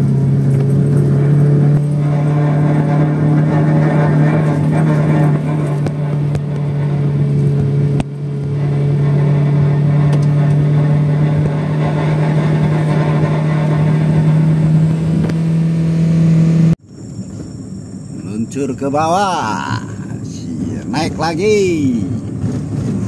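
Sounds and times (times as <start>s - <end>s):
car engine droning: 0.0s - 23.0s
road noise: 0.0s - 23.0s.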